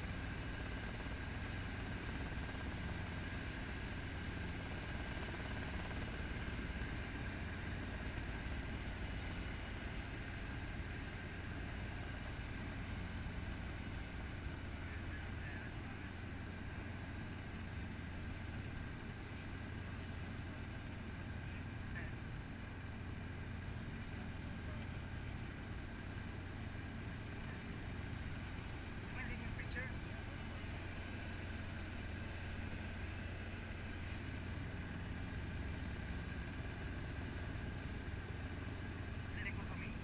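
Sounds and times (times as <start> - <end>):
helicopter engine and rotor: 0.0 - 40.0.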